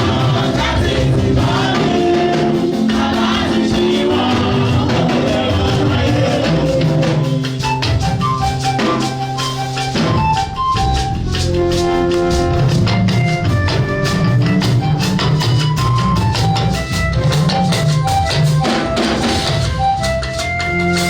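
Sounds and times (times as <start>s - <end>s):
gospel music with drums: 0.0s - 21.0s.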